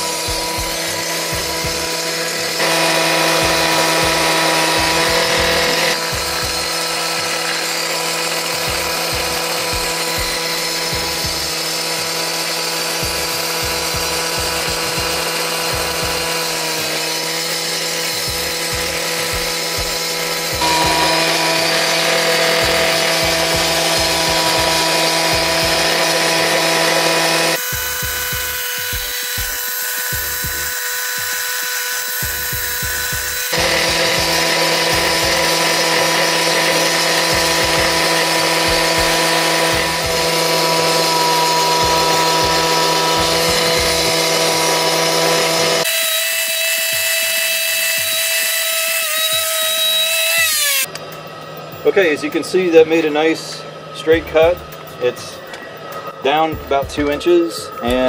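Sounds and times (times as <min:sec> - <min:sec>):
cut-off saw grinding concrete: 0:00.0 - 0:51.0, 0:51.8 - 0:58.0.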